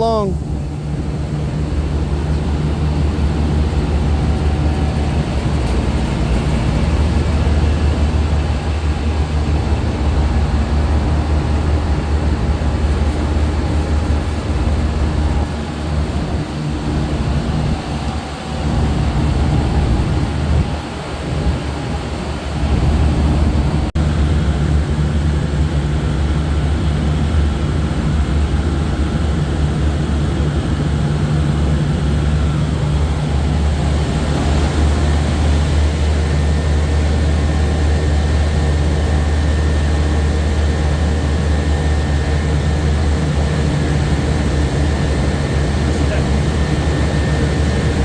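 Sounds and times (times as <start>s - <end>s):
hvac equipment humming: 0.0s - 48.0s.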